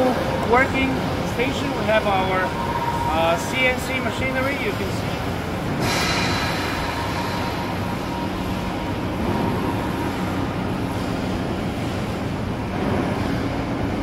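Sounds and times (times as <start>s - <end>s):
constant machine noise: 0.0s - 14.0s
low hum: 0.0s - 14.0s.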